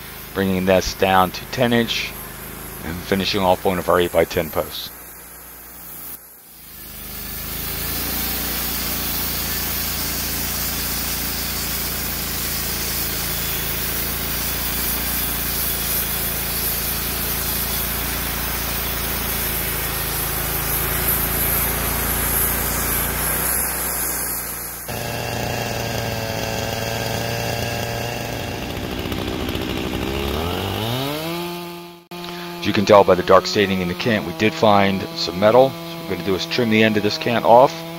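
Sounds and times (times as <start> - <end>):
band sawmill cutting wood: 0.0 - 37.9
sawmill engine running: 0.0 - 37.9.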